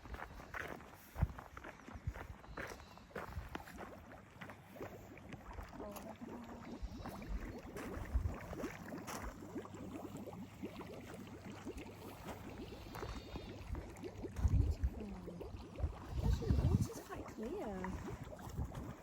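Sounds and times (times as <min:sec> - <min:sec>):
water lapping and trickling: 0:00.0 - 0:19.0.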